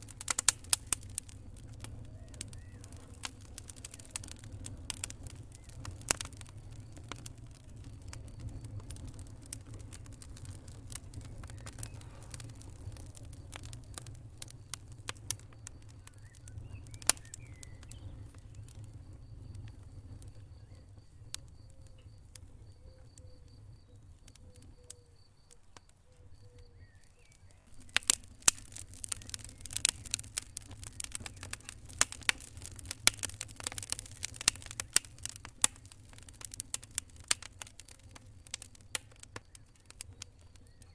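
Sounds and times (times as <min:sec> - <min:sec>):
fire popping and crackling: 0:00.0 - 0:40.9
low rumble of flames: 0:00.0 - 0:40.9.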